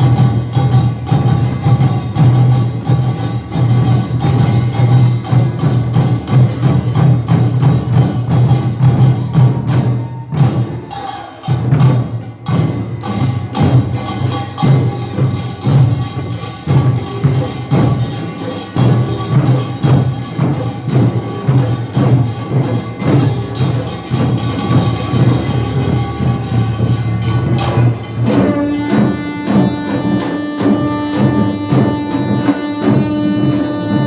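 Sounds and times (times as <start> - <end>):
drums and gongs playing fast: 0.0 - 34.0.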